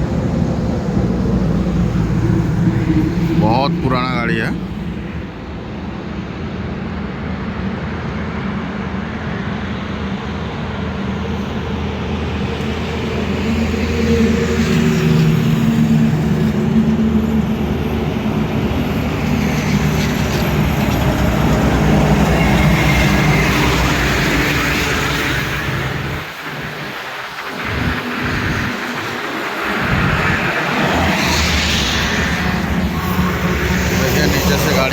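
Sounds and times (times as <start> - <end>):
truck diesel engine droning: 0.0 - 5.4, 11.8 - 34.9
road noise: 0.0 - 34.9.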